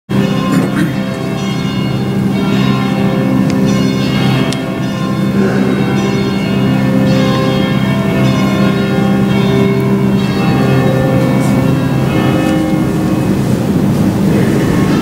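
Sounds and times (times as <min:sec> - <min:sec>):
church bells ringing: 0:00.1 - 0:15.0.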